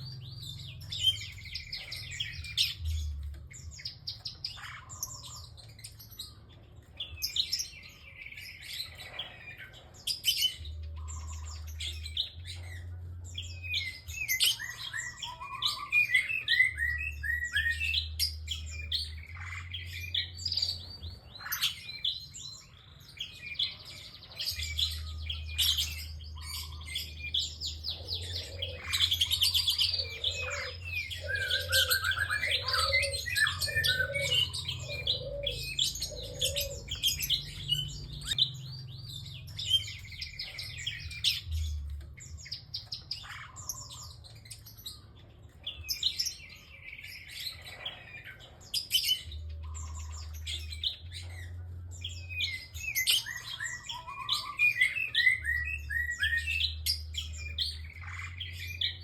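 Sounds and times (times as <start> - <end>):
bird singing chirps and trills: 0.0 - 59.0.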